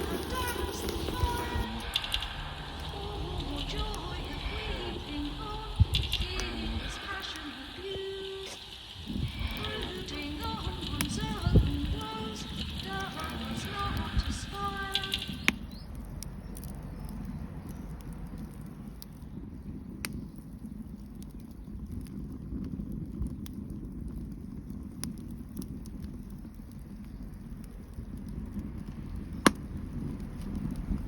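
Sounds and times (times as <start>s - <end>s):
bonfire flames rushing: 0.0s - 31.0s
fire crackling and popping: 0.0s - 31.0s.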